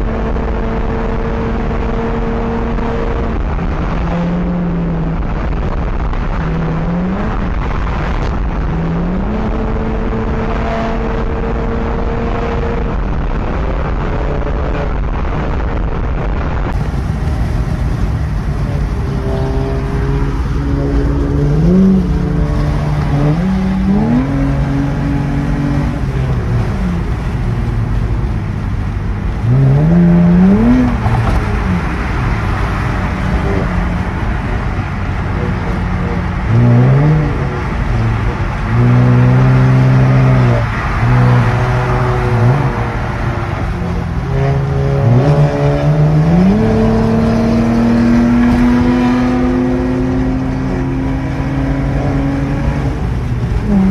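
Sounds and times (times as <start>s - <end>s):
car engine revving: 0.0s - 53.9s
road and wind noise: 0.0s - 53.9s.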